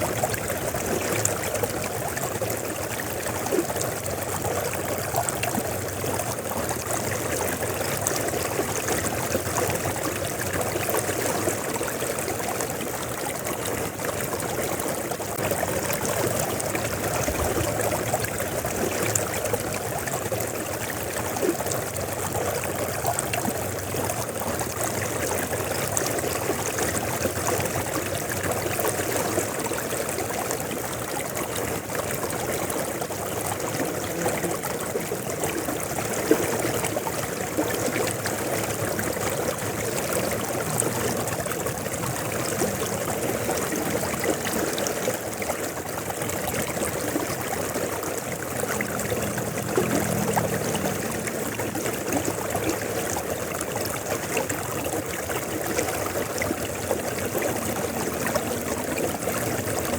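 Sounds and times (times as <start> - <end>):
river water rushing and gurgling: 0.0 - 59.9.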